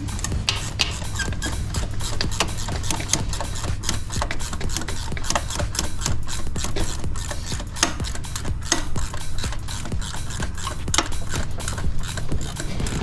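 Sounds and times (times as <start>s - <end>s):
steady low hum: 0.0s - 13.0s
metallic clicks of hand tools: 0.2s - 13.0s.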